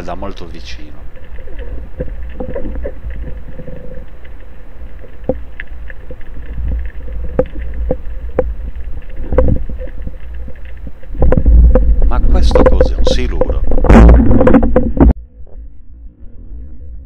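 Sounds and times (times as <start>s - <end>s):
sharp clicks and crackles: 0.0s - 15.6s
underwater rumble of water: 0.0s - 17.0s.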